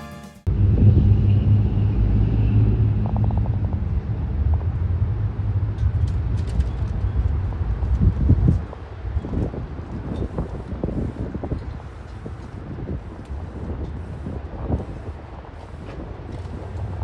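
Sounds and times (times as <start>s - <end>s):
jet engines rumbling overhead: 0.5s - 17.0s.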